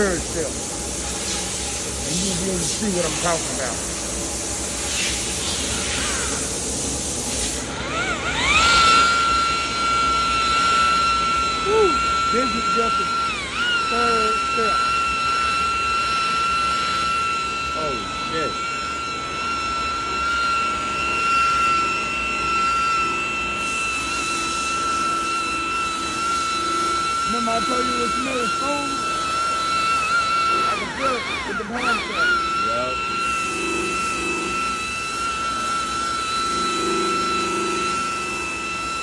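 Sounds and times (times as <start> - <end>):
electric buffer whining: 0.0 - 39.0.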